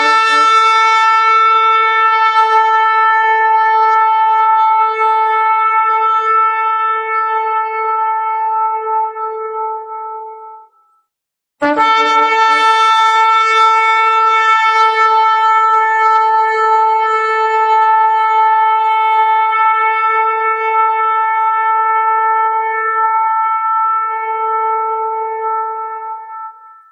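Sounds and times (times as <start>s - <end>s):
horn blowing long note: 0.0s - 10.8s, 11.6s - 26.9s.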